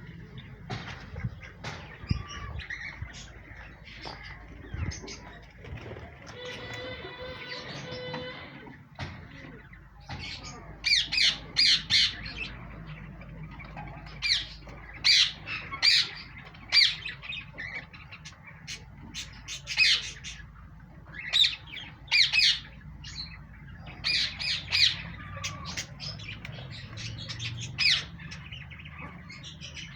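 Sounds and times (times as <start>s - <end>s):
low steady background hum: 0.0s - 29.9s
poultry squawking: 0.0s - 29.9s.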